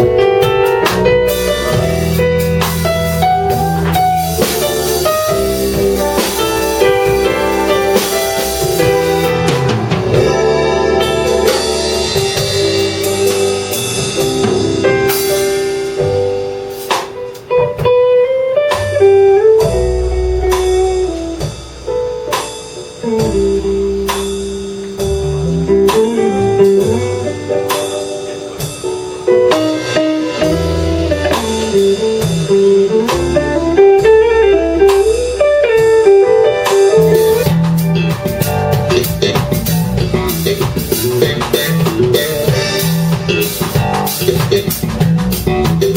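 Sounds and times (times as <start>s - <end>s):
lead guitar with bent notes: 0.0s - 16.3s, 17.1s - 22.0s, 23.0s - 45.9s
bass line: 0.0s - 18.0s, 18.6s - 45.9s
drum kit beat: 0.0s - 45.9s.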